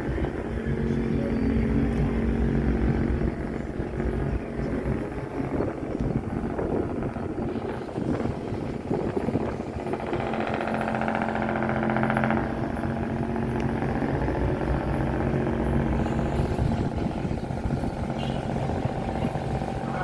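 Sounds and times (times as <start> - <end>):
buzzing engine note: 0.0 - 20.0
ship diesel engine humming: 0.0 - 20.0.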